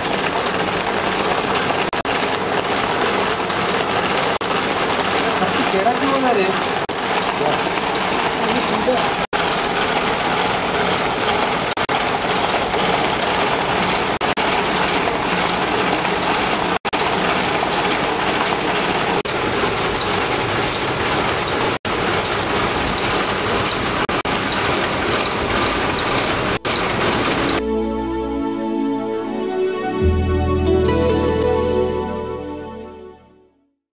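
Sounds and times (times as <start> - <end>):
printing machine running: 0.0 - 27.6.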